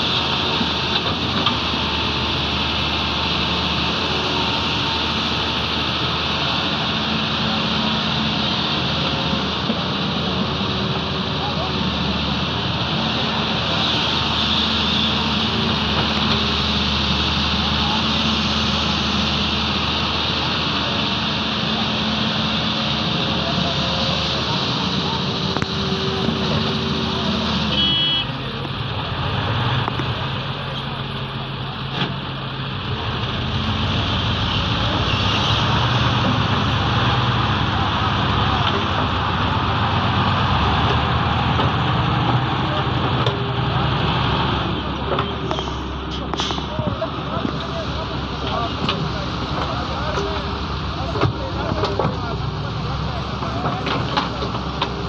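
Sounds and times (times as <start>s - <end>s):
low diesel engine drone: 0.0s - 55.0s.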